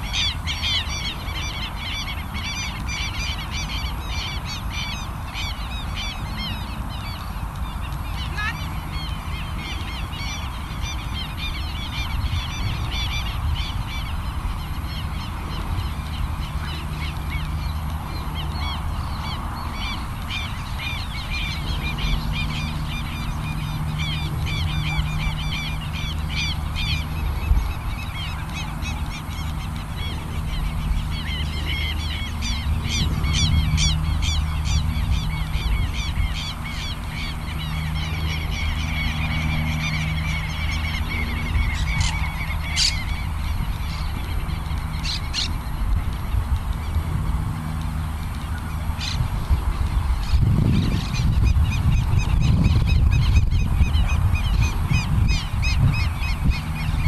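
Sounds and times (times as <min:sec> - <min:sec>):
birds making harsh calls: 0:00.0 - 0:57.0
low steady hum: 0:00.0 - 0:57.0.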